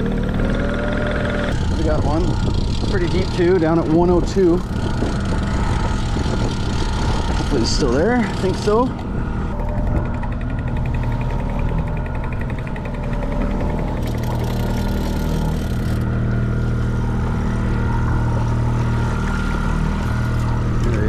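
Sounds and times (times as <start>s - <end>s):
boat motor running: 0.0s - 21.0s.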